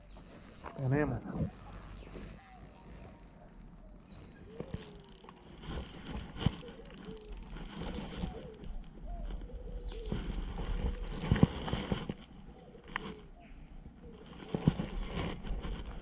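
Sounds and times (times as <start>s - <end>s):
reel gears clicking: 0.0s - 9.0s, 9.9s - 12.1s, 14.2s - 16.0s.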